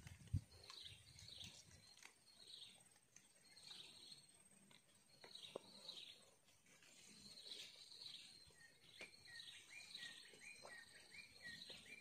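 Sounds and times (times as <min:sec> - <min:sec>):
faint high wildlife chirps: 0:00.2 - 0:12.0.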